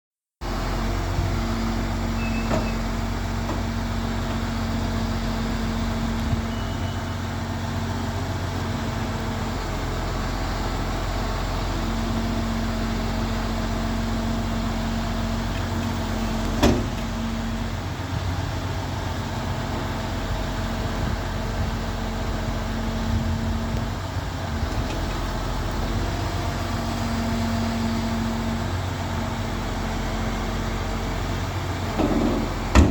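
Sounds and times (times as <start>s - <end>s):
diesel truck engine running: 0.4s - 32.9s.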